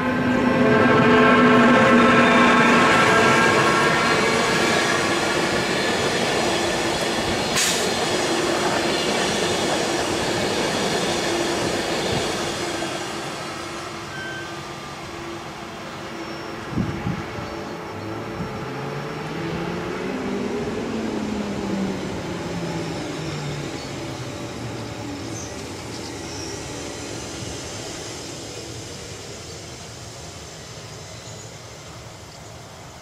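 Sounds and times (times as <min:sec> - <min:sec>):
electric train rolling past: 0:00.0 - 0:33.0.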